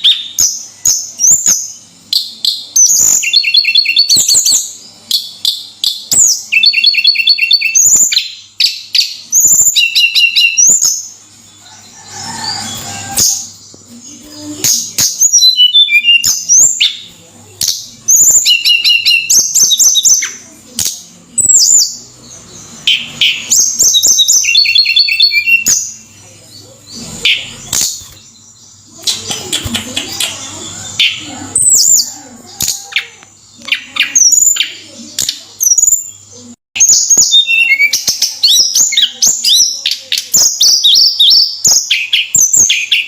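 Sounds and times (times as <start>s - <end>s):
songbird singing chirps and trills: 0.0s - 43.0s.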